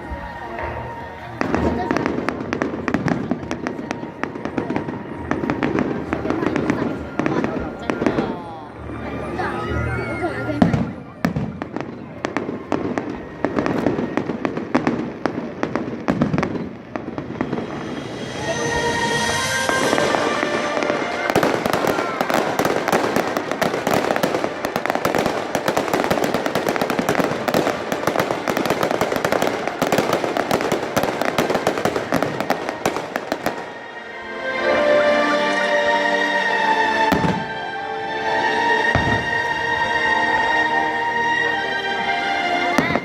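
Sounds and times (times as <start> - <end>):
fireworks bangs and crackle: 0.0 - 9.5, 10.1 - 34.1, 37.1 - 37.6, 38.8 - 39.9, 42.7 - 43.0
music: 0.0 - 43.0.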